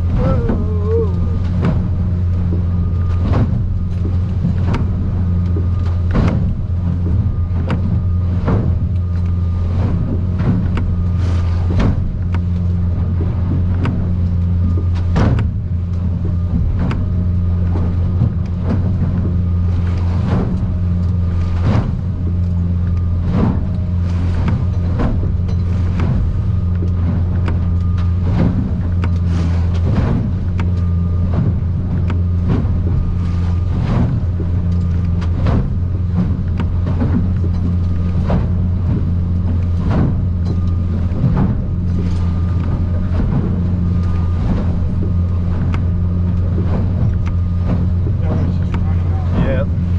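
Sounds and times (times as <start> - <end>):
hull slapping on water: 0.0 - 49.9
outboard motor running: 0.0 - 49.9.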